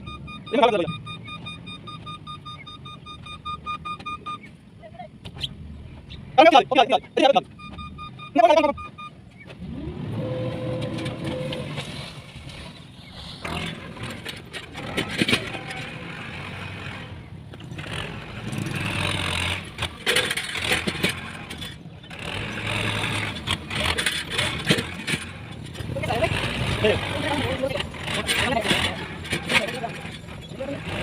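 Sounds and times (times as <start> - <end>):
diesel machinery engine running: 0.0 - 31.0.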